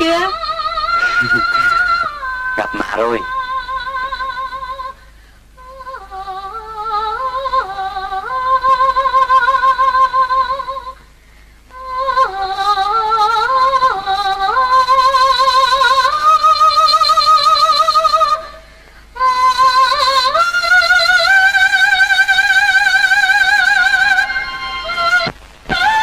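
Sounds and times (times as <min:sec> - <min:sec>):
woman singing slow melody: 0:00.0 - 0:11.1, 0:11.7 - 0:26.0.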